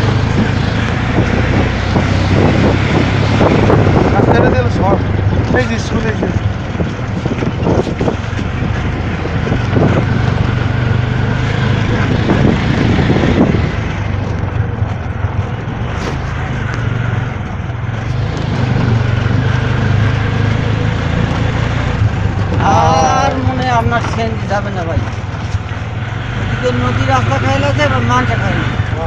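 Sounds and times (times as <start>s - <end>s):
auto-rickshaw engine humming: 0.0s - 29.0s.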